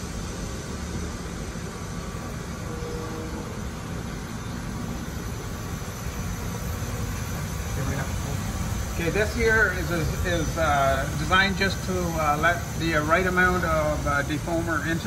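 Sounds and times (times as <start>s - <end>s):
exhaust fan running: 0.0s - 15.0s
sap boiling hard: 0.0s - 15.0s.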